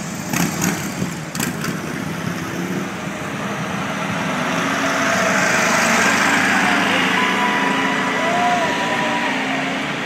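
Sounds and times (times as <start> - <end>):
bus diesel engines: 0.0 - 10.0.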